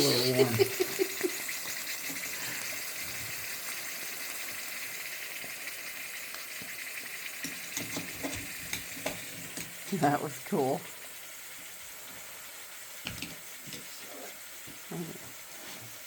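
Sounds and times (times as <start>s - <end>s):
liquid sizzling on hot metal: 0.0s - 16.0s.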